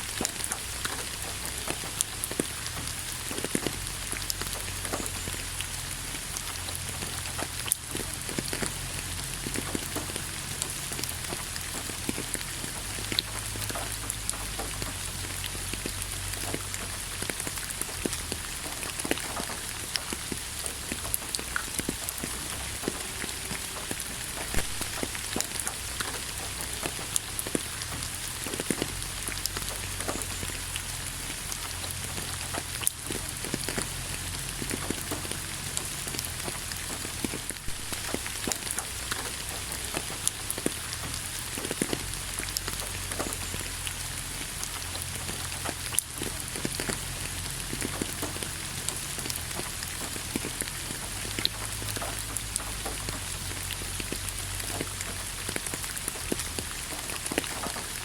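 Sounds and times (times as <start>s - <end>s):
steady rain with ticking drops: 0.0s - 58.0s.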